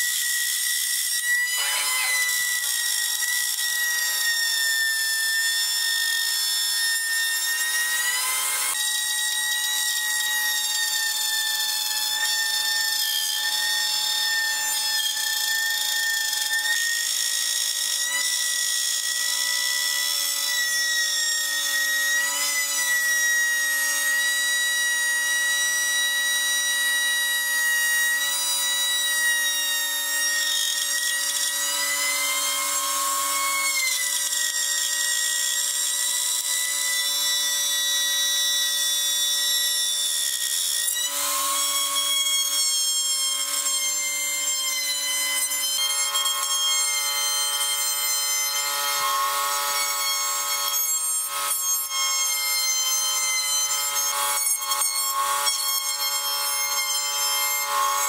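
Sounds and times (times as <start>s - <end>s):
electric router cutting wood: 0.0s - 58.0s.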